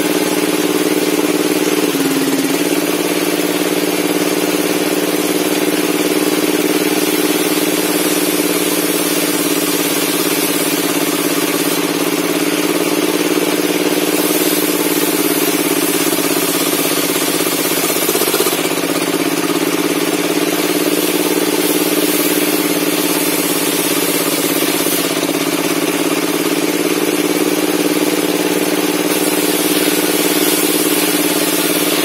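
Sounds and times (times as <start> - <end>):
table saw running: 0.0 - 32.0.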